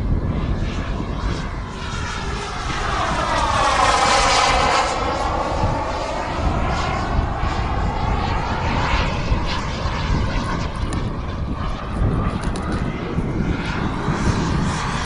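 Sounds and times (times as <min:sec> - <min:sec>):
model jet turbine whine: 0:00.0 - 0:15.0
rushing turbine noise: 0:00.0 - 0:15.0.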